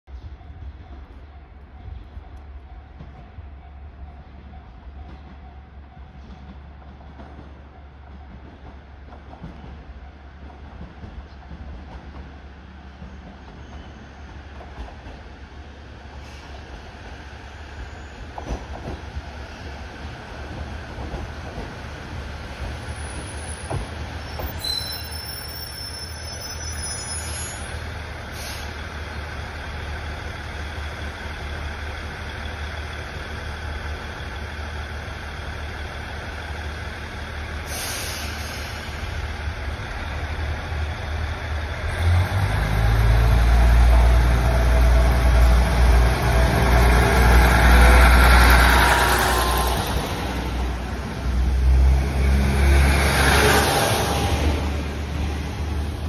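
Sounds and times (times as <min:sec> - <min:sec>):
diesel railcar passing: 0:00.1 - 0:56.0.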